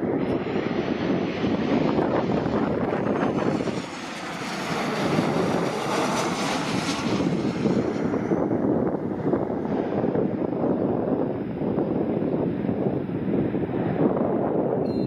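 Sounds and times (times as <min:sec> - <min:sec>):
jet airliner flying past: 0:00.0 - 0:15.0.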